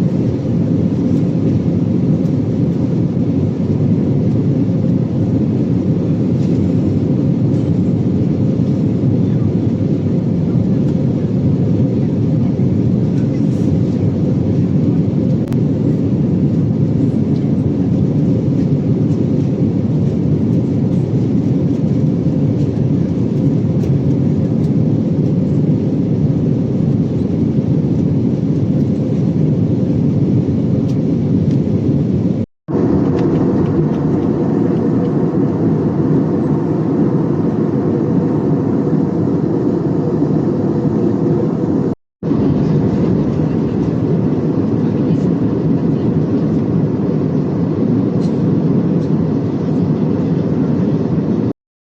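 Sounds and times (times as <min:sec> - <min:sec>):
airplane cabin engine rush: 0:00.0 - 0:51.5.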